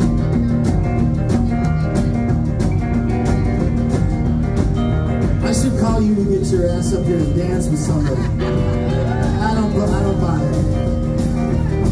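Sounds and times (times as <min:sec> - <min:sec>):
bass guitar: 0:00.0 - 0:11.9
drum kit beat: 0:00.0 - 0:11.9
electric guitars: 0:00.0 - 0:11.9.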